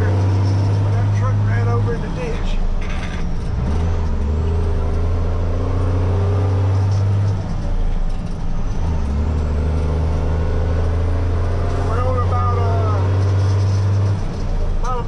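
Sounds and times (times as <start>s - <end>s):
truck engine drone: 0.0s - 15.0s.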